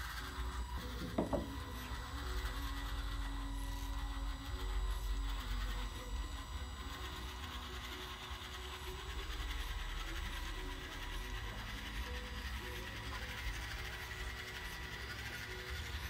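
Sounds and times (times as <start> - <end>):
small electric motor whirring: 0.0 - 16.0
soft background music: 0.0 - 16.0.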